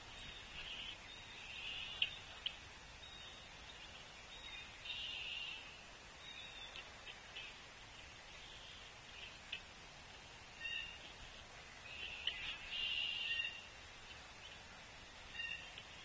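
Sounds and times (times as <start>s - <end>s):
songbirds chattering: 0.0s - 16.0s.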